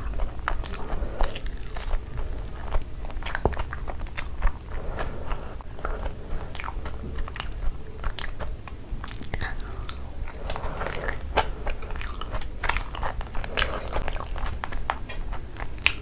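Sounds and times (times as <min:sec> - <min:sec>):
chewing crunchy snack: 0:00.0 - 0:16.0.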